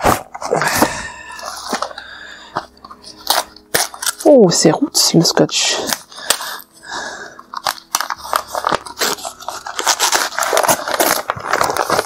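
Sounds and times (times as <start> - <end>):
newspaper crinkling and tearing: 0.0 - 12.0.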